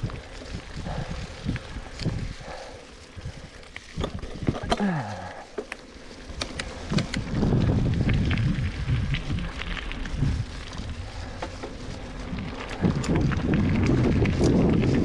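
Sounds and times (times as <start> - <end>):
bike crackles and clicks: 0.0 - 15.0
wind rumbling on microphone: 0.0 - 15.0.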